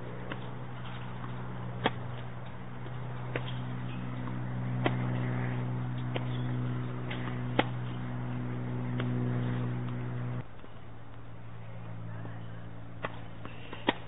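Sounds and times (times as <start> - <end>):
balls bouncing on hard court: 0.0 - 10.8, 13.0 - 14.0
tennis balls struck by rackets: 0.0 - 11.3, 12.2 - 14.0
steady low hum: 0.0 - 14.0.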